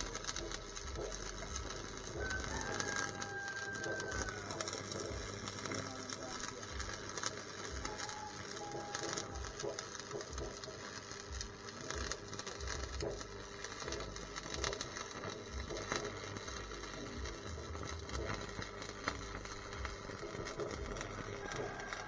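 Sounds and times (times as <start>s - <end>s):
arc welding crackle with pops: 0.0s - 22.0s.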